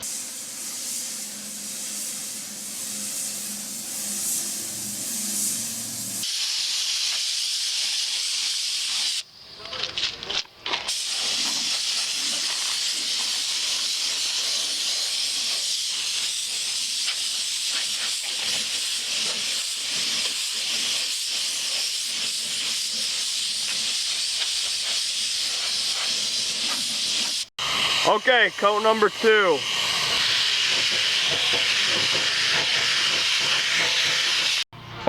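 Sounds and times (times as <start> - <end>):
spray hissing: 0.0 - 9.3, 10.9 - 34.7.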